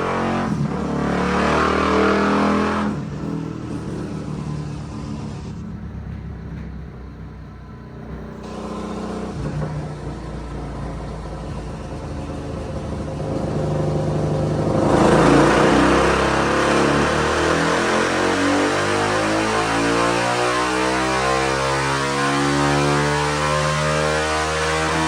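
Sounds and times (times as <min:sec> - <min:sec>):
motorcycle engine revving under load: 0:00.0 - 0:06.7, 0:07.7 - 0:25.0.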